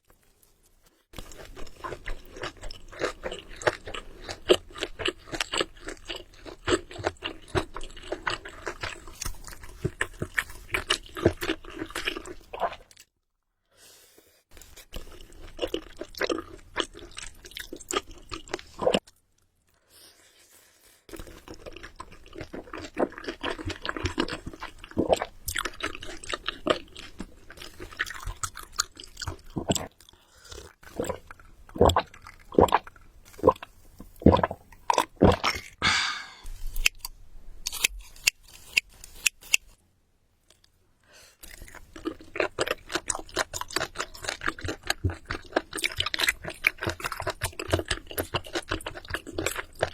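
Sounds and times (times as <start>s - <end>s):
person chewing crunchy food: 0.0s - 13.1s, 14.5s - 39.8s, 41.4s - 49.9s.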